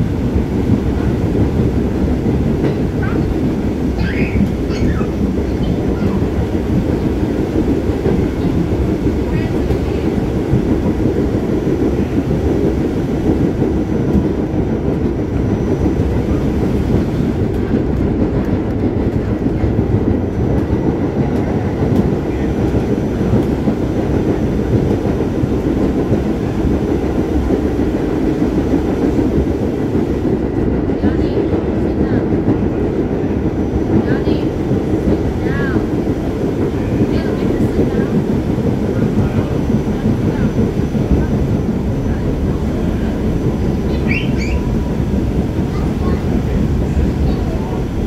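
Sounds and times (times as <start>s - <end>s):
subway car rumbling: 0.0s - 48.0s.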